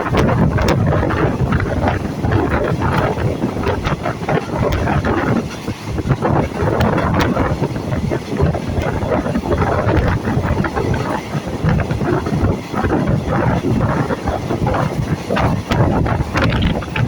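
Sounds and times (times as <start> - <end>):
train rumbling: 0.0 - 17.0
wind on microphone: 0.0 - 17.0.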